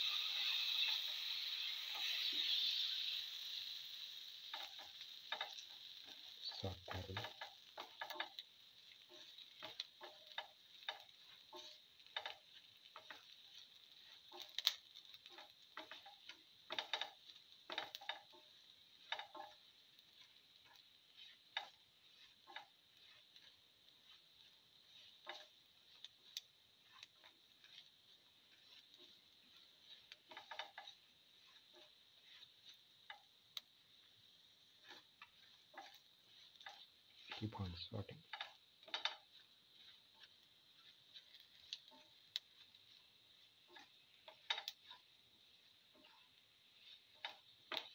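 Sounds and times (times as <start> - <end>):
food sizzling in oil: 0.0 - 47.9
spatula clicking and tapping: 4.4 - 47.9.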